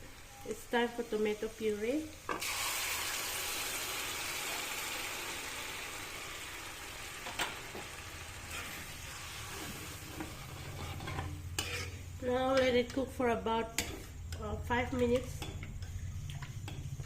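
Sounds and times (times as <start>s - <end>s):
puree sizzling in hot oil: 0.0s - 17.0s.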